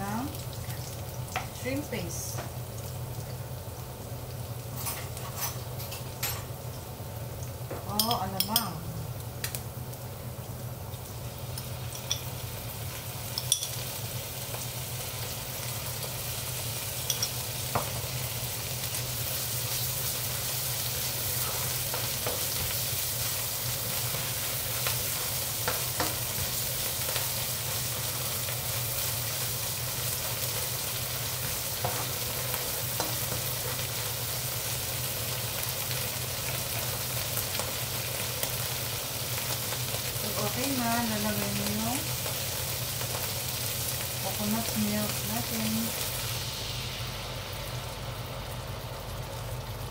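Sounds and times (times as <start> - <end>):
shrimp paste sizzling in a wok: 0.0 - 8.1, 9.0 - 49.9.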